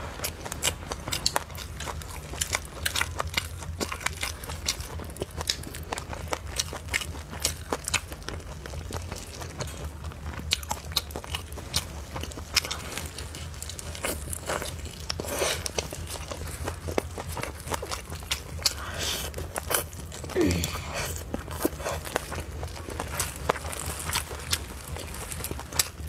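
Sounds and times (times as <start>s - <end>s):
person chewing chicken wing: 0.0s - 26.0s.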